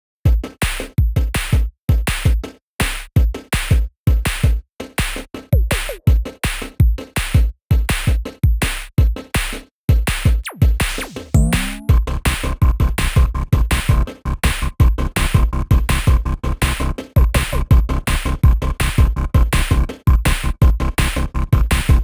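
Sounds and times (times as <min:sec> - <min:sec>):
electronic music with drum-machine beat: 0:00.3 - 0:22.0.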